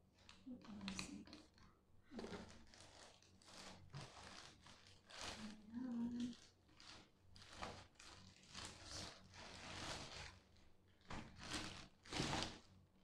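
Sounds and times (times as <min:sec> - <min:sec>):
plastic bag rustling and crinkling: 0:02.1 - 0:12.8.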